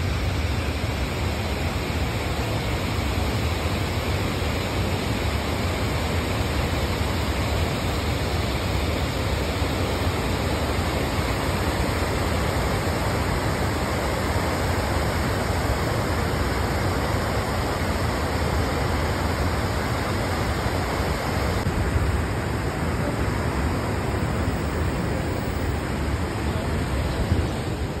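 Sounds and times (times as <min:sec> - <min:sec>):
water rushing over weir: 0:00.0 - 0:28.0.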